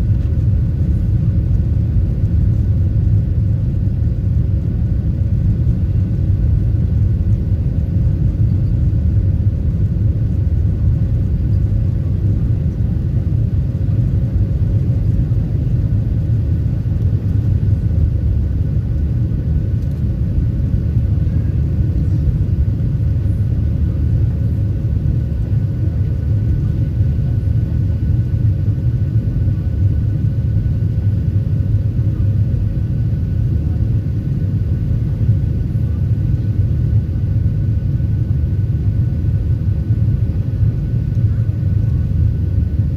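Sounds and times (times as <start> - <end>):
jet engine rumble in cabin: 0.0 - 42.9.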